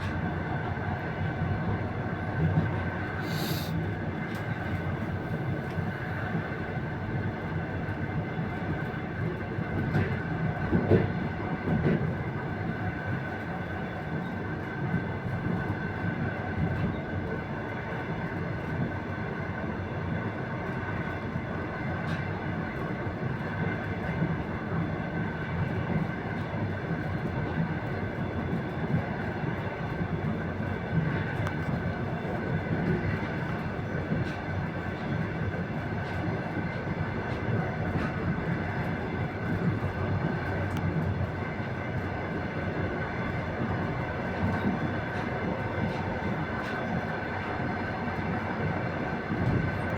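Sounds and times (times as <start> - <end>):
train wheels rumbling on track: 0.0 - 49.9.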